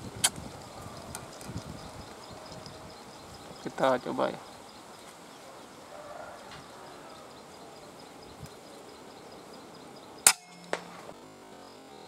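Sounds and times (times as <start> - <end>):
birds or insects chirping: 0.0 - 12.0.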